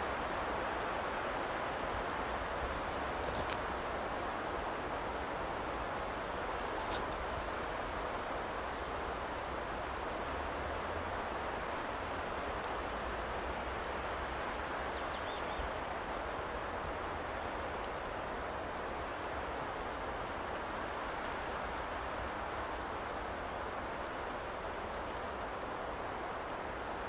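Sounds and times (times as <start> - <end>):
white noise hiss: 0.0 - 27.0.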